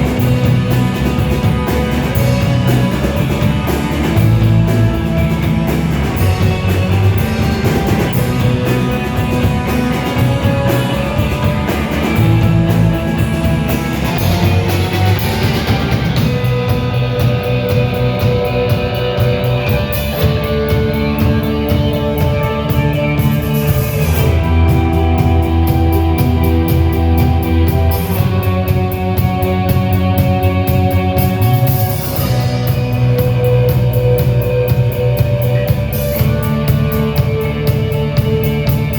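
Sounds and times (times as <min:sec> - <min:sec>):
rock music with guitar and drums: 0:00.0 - 0:38.9.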